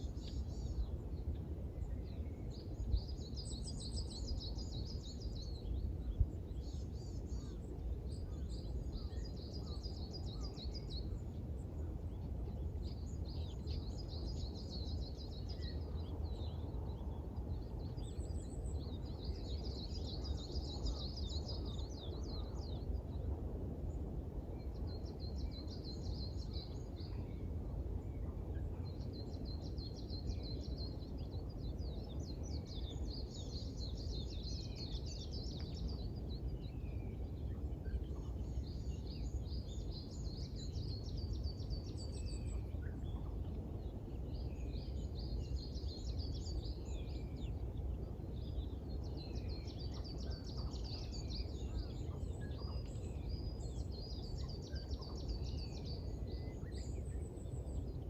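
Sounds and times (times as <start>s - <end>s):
songbirds chirping trills: 0.0s - 58.0s.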